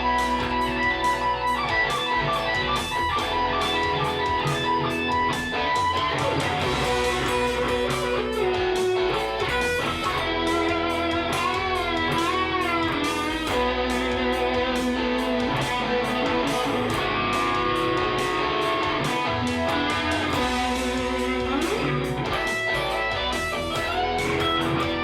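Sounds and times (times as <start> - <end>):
backing track with drums: 0.0 - 25.0
electric guitar lead: 0.0 - 25.0.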